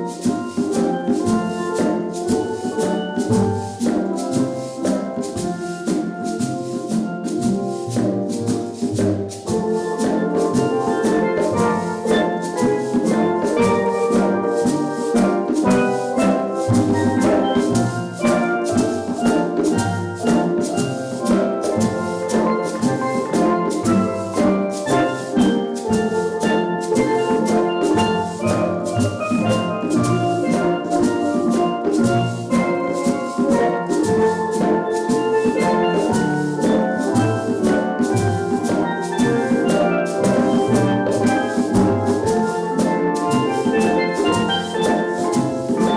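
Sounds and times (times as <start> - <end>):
steady drum beat: 0.0 - 45.9
steelpan notes ringing: 0.0 - 45.9.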